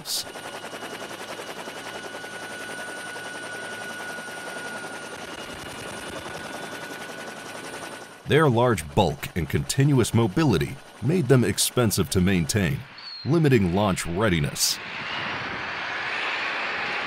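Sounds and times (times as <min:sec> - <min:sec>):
pulsing engine drone: 0:00.0 - 0:14.2
faint high whine: 0:00.0 - 0:17.0.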